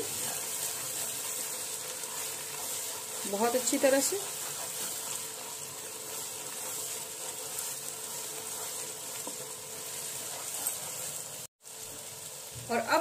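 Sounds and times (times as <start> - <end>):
wooden spatula stirring: 0.0 - 12.4
masala sizzling in oil: 0.0 - 13.0.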